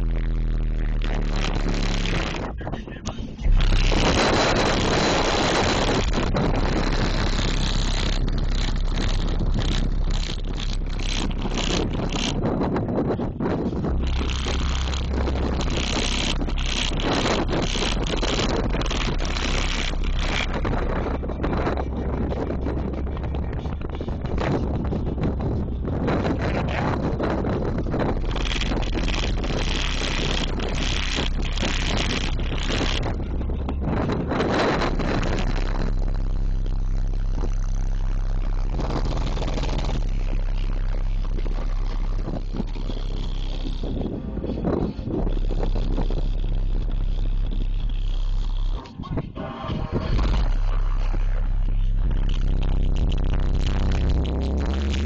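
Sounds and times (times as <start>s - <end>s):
loud distorted subwoofer bass: 0.0s - 55.0s.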